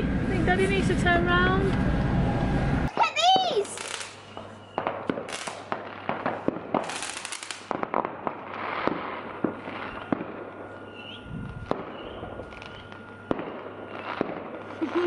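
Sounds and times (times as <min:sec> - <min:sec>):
fireworks crackling: 0:00.5 - 0:15.0
fireworks bangs: 0:02.1 - 0:15.0.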